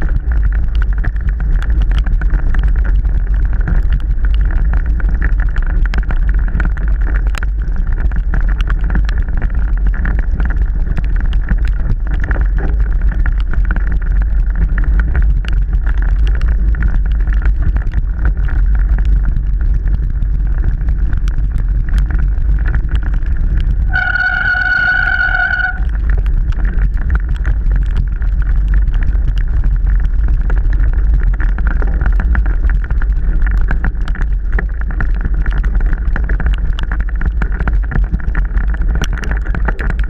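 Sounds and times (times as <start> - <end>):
bike clicks and rattles: 0.0 - 40.0
wind buffeting microphone: 0.0 - 40.0.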